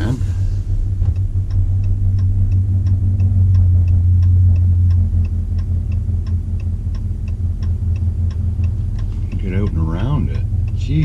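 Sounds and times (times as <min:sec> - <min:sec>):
indicator ticking: 0:00.0 - 0:11.0
low drone inside vehicle cab: 0:00.0 - 0:11.0.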